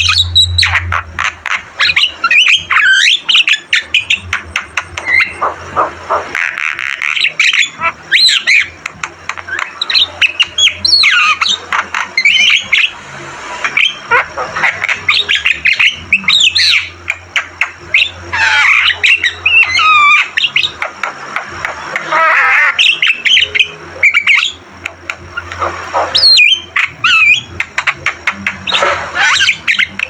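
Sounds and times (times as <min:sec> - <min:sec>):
bird singing squawks and whistles: 0:00.0 - 0:13.0, 0:13.6 - 0:20.9, 0:22.0 - 0:24.7, 0:25.3 - 0:30.0.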